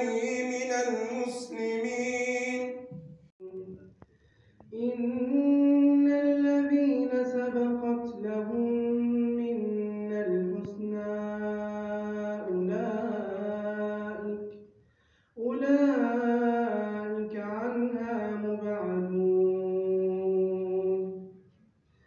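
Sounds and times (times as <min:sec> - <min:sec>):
person chanting recitation: 0:00.0 - 0:14.7, 0:15.4 - 0:21.4.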